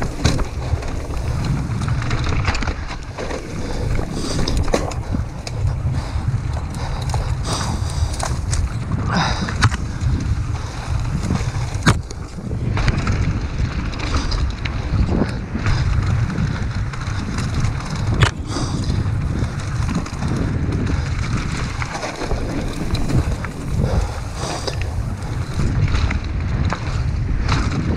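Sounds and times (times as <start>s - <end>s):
bike rattling over rough ground: 0.0s - 27.9s
wind buffeting microphone: 0.0s - 27.9s.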